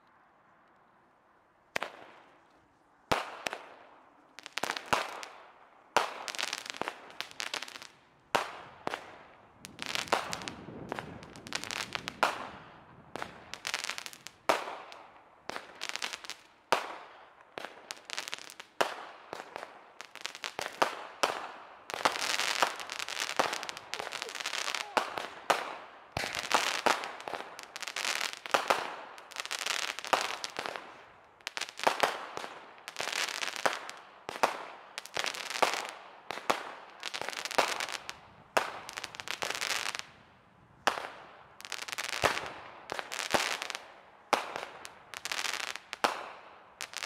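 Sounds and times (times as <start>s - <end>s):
fireworks bangs and crackle: 3.1s - 40.2s, 40.8s - 47.0s.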